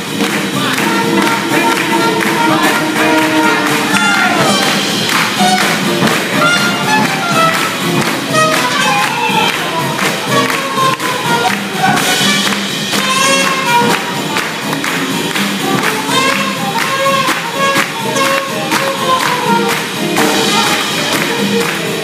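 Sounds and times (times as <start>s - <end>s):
swing band playing: 0.0s - 22.0s.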